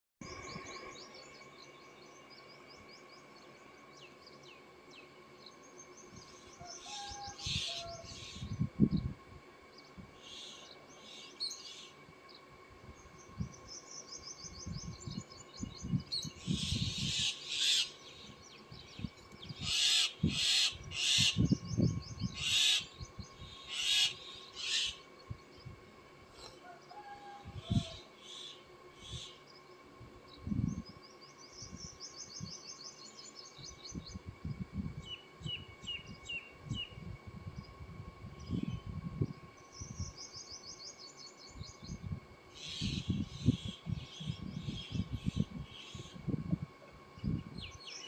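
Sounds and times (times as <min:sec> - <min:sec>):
birds chirping in trills: 0:00.2 - 0:34.4, 0:35.0 - 0:46.2, 0:47.0 - 0:48.0.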